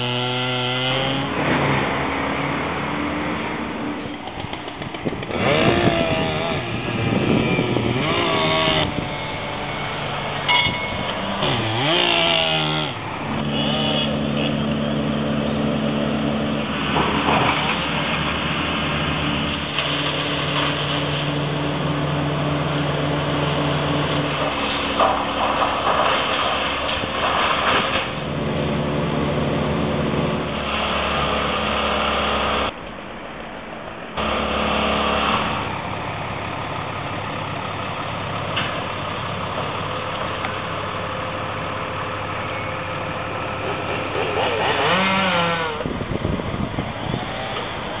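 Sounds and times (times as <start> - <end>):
truck and machinery engines running: 0.0 - 48.0.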